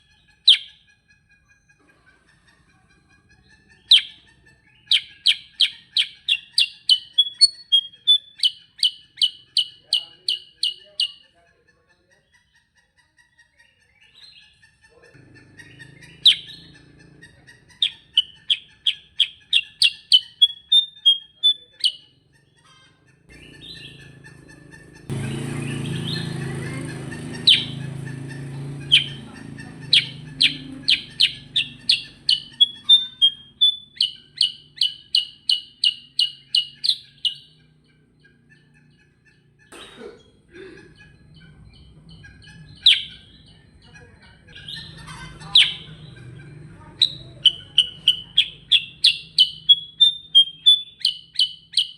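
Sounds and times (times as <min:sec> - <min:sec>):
bird singing rapid clear notes: 0:00.0 - 0:00.9, 0:03.5 - 0:11.4, 0:13.6 - 0:51.9.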